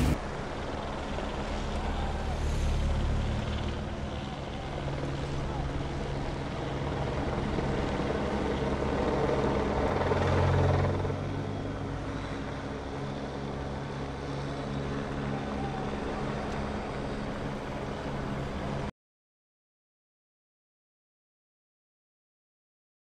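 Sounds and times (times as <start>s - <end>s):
engine drone: 0.0s - 18.9s.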